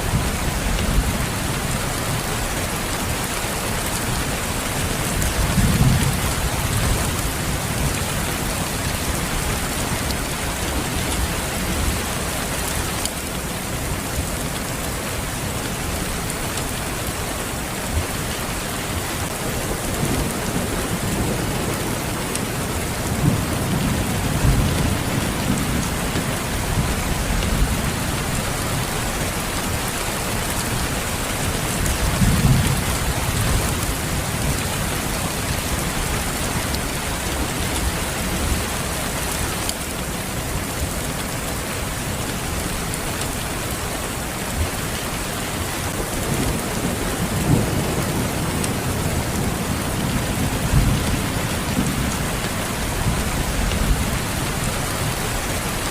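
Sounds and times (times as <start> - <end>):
dense rain falling: 0.0 - 55.9.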